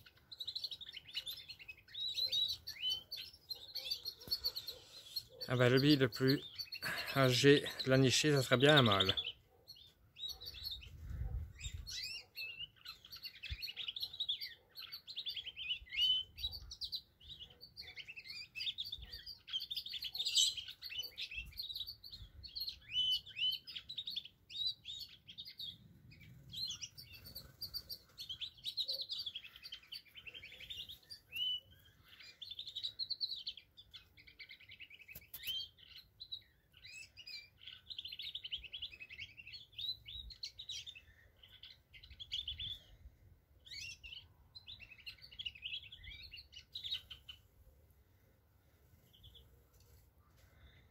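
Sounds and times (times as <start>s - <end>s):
canaries singing trills: 0.0s - 50.9s.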